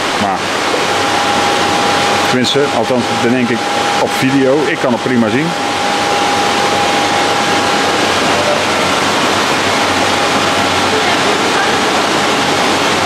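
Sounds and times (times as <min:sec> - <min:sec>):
water jet rushing into tank: 0:00.0 - 0:13.0.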